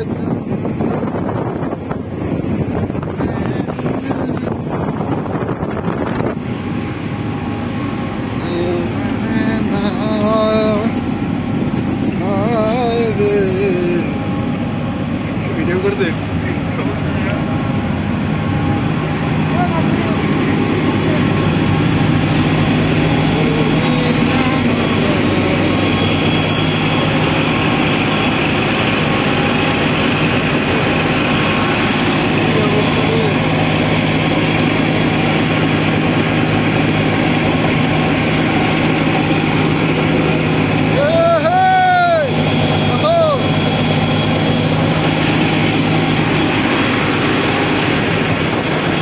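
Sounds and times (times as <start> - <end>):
boat engine drone: 0.0 - 49.0
water churning in propeller wash: 0.0 - 49.0.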